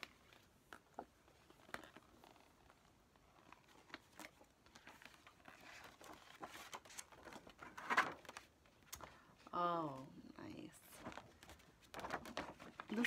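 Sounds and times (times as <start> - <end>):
paper and plastic packaging rustling: 0.0 - 9.5, 10.8 - 13.0.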